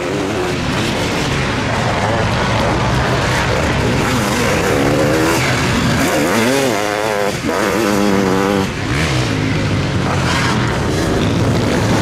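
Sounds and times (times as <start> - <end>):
racing engines revving: 0.0 - 12.0.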